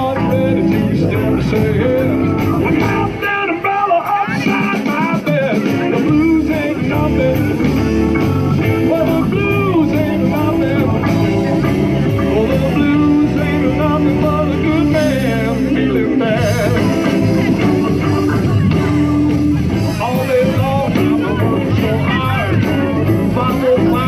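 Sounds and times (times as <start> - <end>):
live blues rock band: 0.0 - 24.0
person singing: 0.0 - 24.0.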